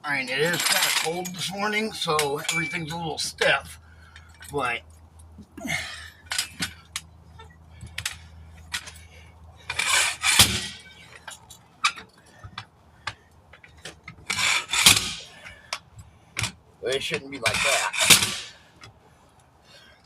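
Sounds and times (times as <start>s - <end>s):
tire bead scraping: 0.0s - 20.0s.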